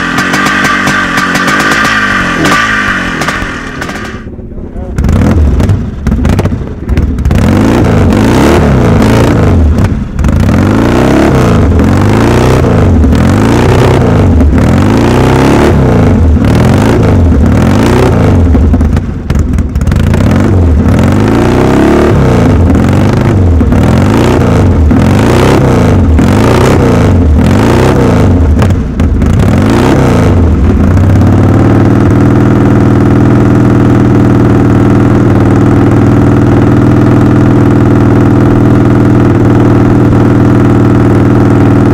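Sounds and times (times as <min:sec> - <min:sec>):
dirt bike engine revving: 0:00.0 - 0:04.3, 0:05.0 - 0:41.9.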